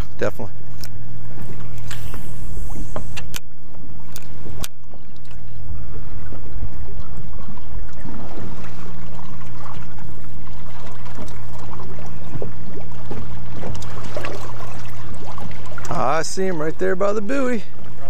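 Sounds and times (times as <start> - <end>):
boat motor humming: 0.0 - 18.0
water splashing against hull: 0.0 - 18.0.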